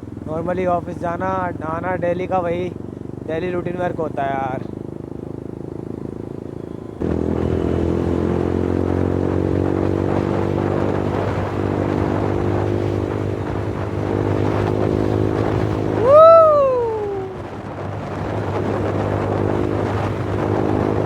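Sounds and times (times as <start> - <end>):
motorcycle engine and exhaust: 0.0 - 21.0
road noise: 0.0 - 21.0.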